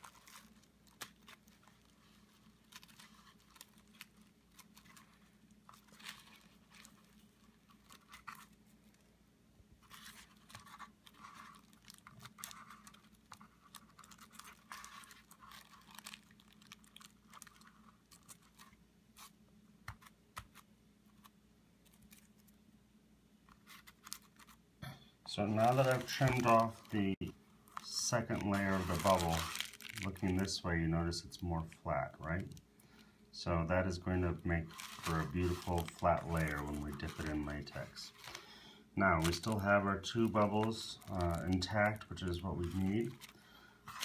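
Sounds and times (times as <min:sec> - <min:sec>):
plastic crinkling: 0:00.0 - 0:09.1, 0:09.8 - 0:22.6, 0:23.4 - 0:24.6, 0:25.3 - 0:44.0
low steady hum: 0:00.0 - 0:44.0.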